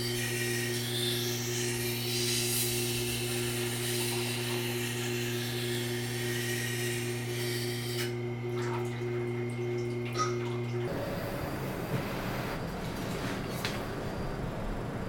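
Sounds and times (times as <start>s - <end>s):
grinder motor hum: 0.0s - 15.0s.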